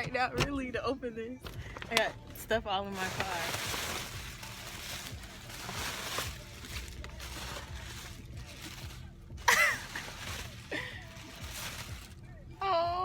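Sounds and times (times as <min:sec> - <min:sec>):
gift wrapping rustling: 0:01.5 - 0:12.3.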